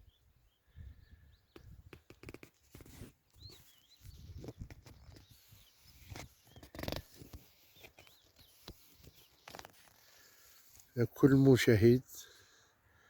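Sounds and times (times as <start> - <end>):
outdoor rustling: 0.0 - 13.0
small birds chirping: 0.0 - 13.0.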